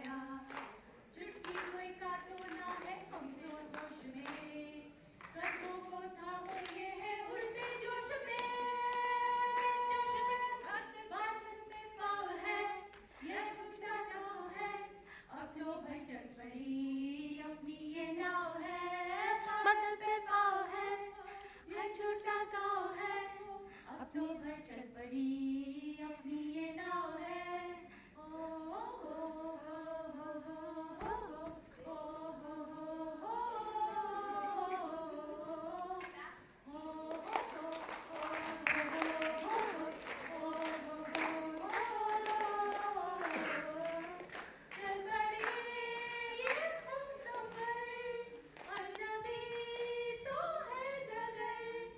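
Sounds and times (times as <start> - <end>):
women singing into a microphone: 0.0 - 51.9.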